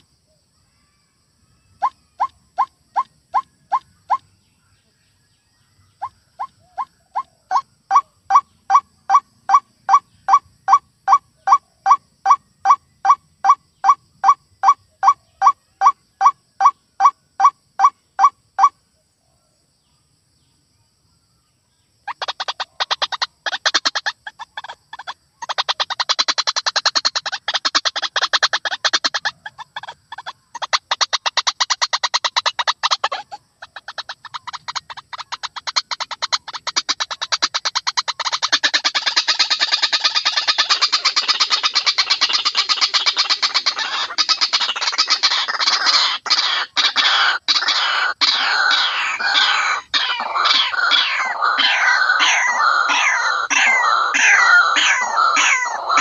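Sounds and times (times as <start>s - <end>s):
waterhen repeated calls: 1.6s - 4.3s, 6.0s - 18.8s, 22.0s - 56.0s
harsh rapid chattering calls: 1.8s - 4.3s, 6.0s - 18.7s, 22.0s - 56.0s.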